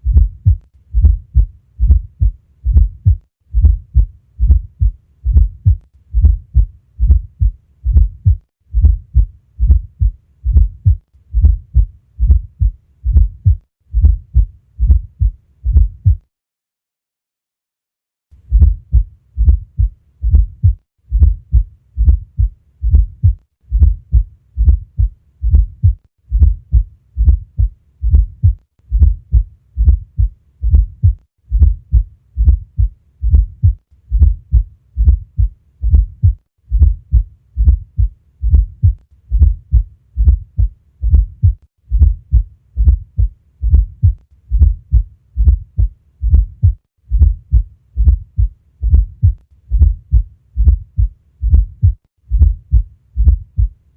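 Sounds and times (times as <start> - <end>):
heartbeat thuds: 0.0 - 16.3, 18.5 - 53.8.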